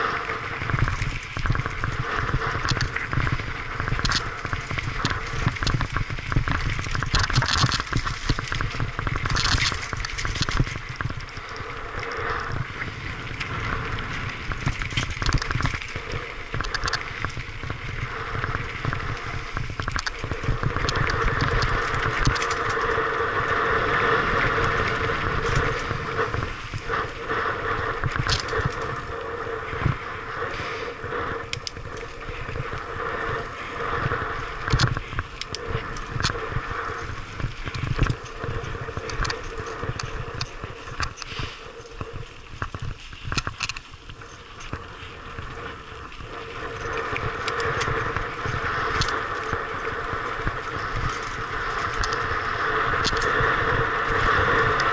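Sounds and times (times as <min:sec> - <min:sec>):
bike tyres crunching over gravel: 0:00.0 - 0:54.9.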